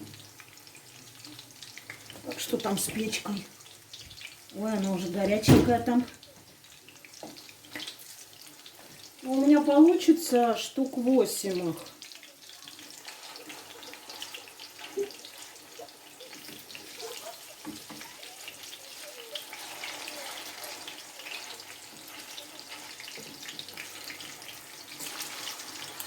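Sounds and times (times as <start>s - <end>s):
fritters sizzling in oil: 0.0s - 26.0s.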